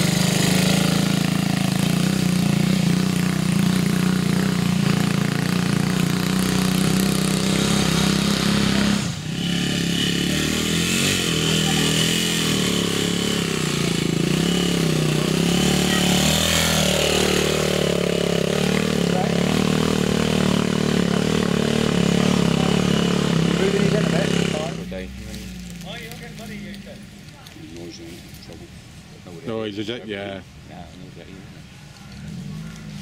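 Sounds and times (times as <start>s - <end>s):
motorcycle engines at low revs: 0.0s - 33.0s.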